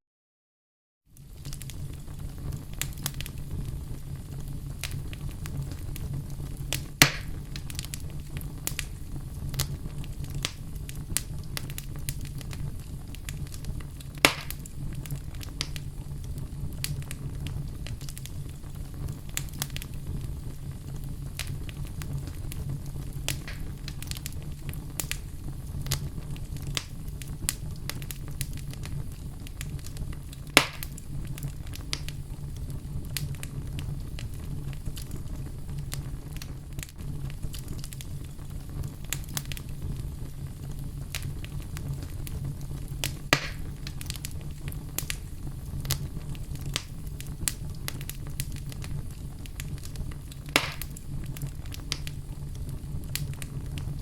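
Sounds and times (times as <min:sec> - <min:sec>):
fire crackling: 0:01.1 - 0:54.0
fire flames rumbling: 0:01.1 - 0:54.0
burning logs popping: 0:01.2 - 0:54.0.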